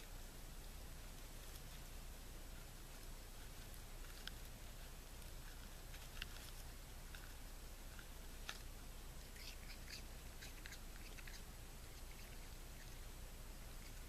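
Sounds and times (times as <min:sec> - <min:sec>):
low steady hiss: 0:00.0 - 0:14.0
animal crunching food: 0:01.0 - 0:14.0.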